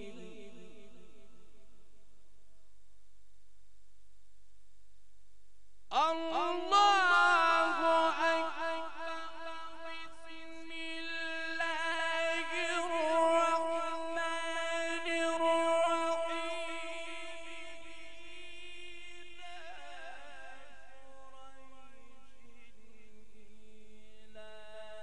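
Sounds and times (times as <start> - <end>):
man chanting recitation: 0.0 - 1.6, 5.9 - 25.0.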